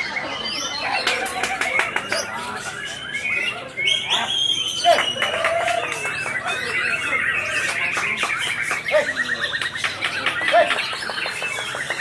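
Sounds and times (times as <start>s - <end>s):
birds singing whistled phrases: 0.0s - 12.0s.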